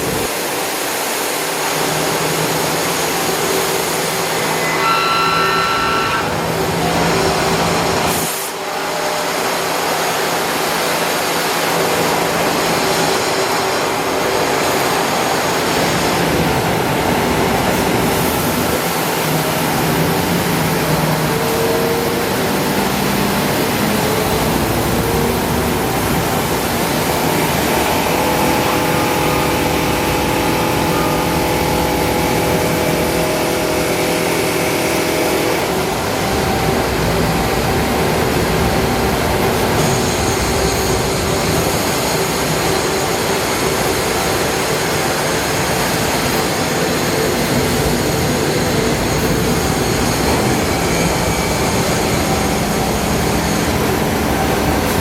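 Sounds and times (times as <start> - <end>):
lathe mechanical rush: 0.0 - 55.0
machine whining tones: 1.6 - 55.0.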